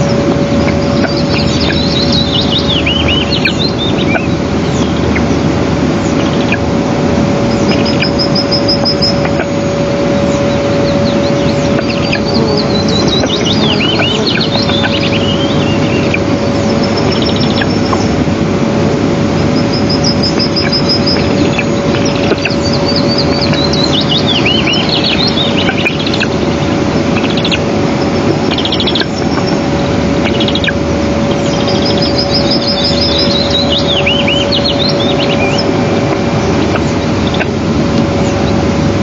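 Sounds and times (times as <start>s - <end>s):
small birds singing: 0.0s - 18.2s, 19.2s - 39.0s
loud steady rushing noise: 0.0s - 39.0s.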